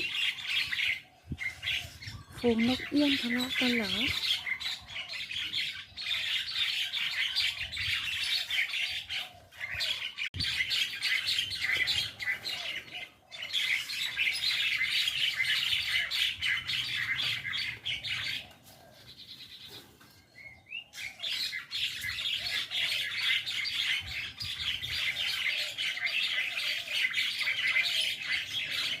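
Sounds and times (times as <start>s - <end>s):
flock of birds chattering and squawking: 0.0s - 29.0s.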